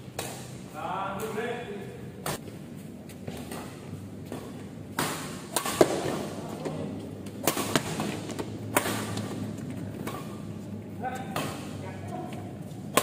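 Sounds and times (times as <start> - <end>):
rackets hitting a shuttlecock: 0.0 - 1.5, 3.3 - 13.0.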